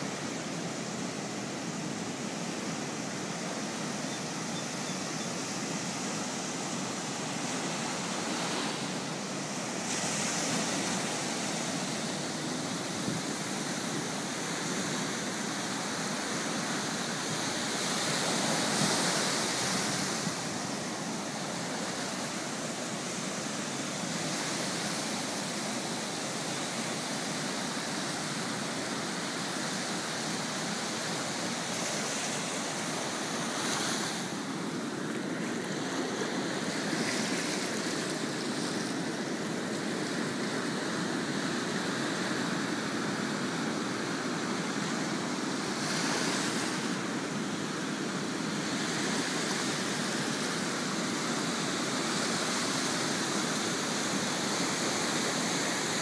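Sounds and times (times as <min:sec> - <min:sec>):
ocean surf breaking on sand: 0:00.0 - 0:56.0.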